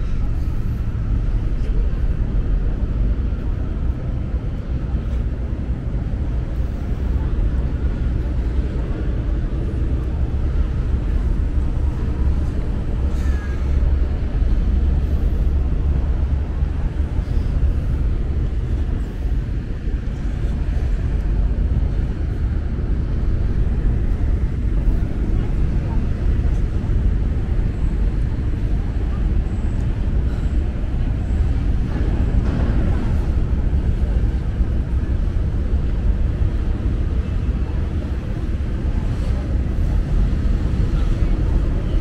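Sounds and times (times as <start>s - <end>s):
ferry engines: 0.0s - 42.0s
traffic: 0.0s - 42.0s
wind buffeting microphone: 0.0s - 42.0s.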